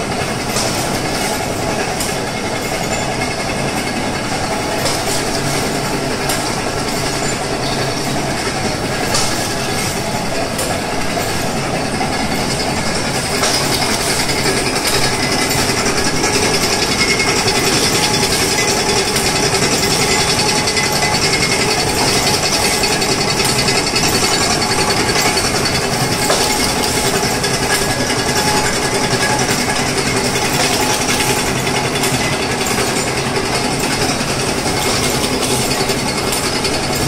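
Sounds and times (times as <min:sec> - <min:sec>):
packaging machine clattering: 0:00.0 - 0:37.0.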